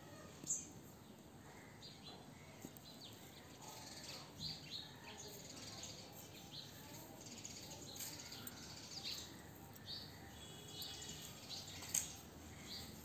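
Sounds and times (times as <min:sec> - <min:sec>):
birds chirping: 0:00.3 - 0:13.0.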